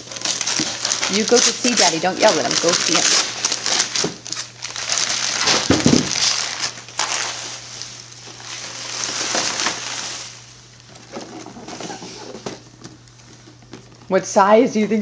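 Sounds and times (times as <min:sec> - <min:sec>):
paper crinkling and tearing: 0:00.0 - 0:13.7.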